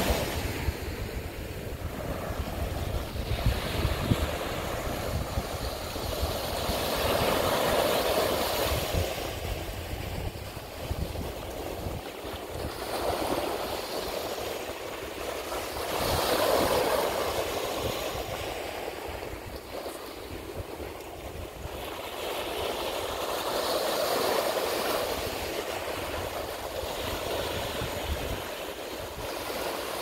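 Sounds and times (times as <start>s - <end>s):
ocean waves breaking on beach: 0.0s - 30.0s.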